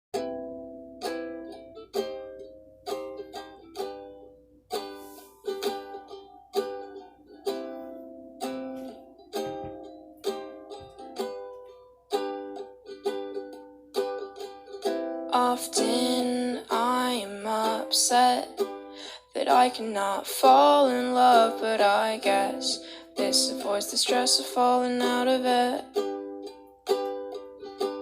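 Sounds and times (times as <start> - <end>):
acoustic strings strumming chords: 0.2 - 28.0.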